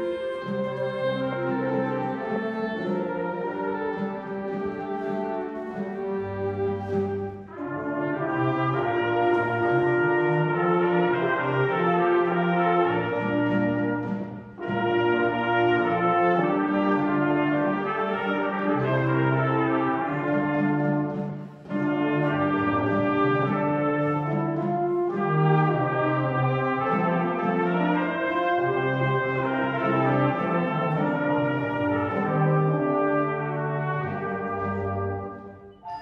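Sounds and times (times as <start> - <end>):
wind band playing held chords: 0.0 - 36.0.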